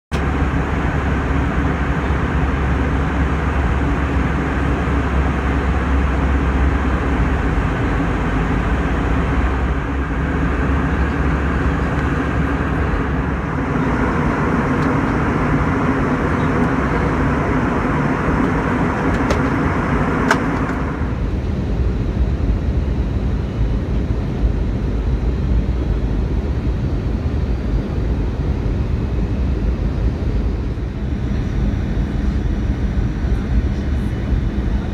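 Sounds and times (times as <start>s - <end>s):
outdoor vehicle rumble: 0.1s - 34.9s.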